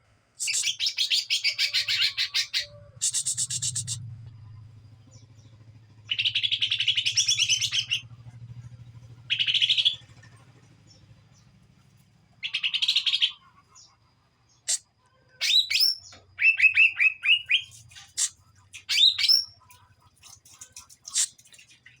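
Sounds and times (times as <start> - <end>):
bird singing: 0.4 - 14.8, 15.4 - 22.0.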